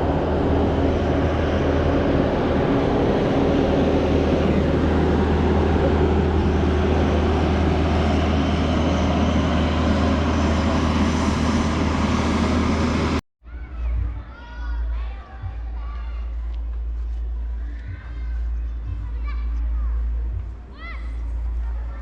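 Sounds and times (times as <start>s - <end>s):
road and wind noise: 0.0s - 22.0s
vehicle rumble: 0.0s - 22.0s.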